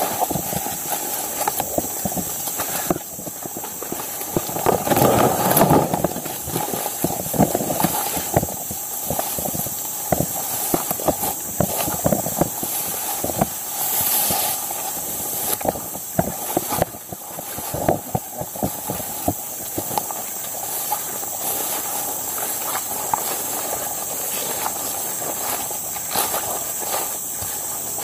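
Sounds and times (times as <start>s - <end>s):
footsteps through tall grass: 0.0s - 28.0s
steady high-pitched hiss: 0.0s - 28.0s.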